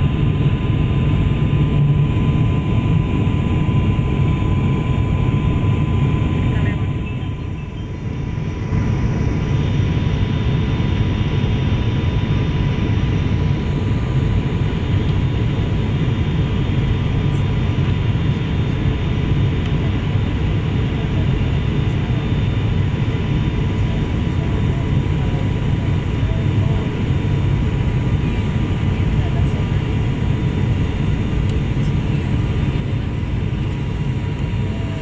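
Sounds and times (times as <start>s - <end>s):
high engine whine: 0.0s - 35.0s
propeller engine drone: 0.0s - 35.0s.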